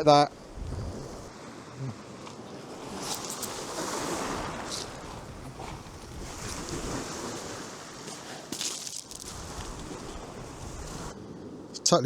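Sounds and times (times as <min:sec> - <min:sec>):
wind buffeting microphone: 0:00.0 - 0:01.4, 0:02.4 - 0:11.8
surf breaking on beach: 0:00.0 - 0:11.6.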